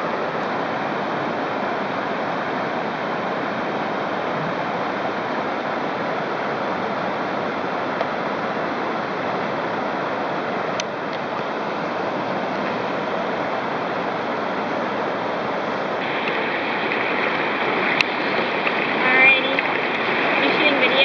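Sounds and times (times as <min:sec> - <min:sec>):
river rushing over rapids: 0:00.0 - 0:21.0.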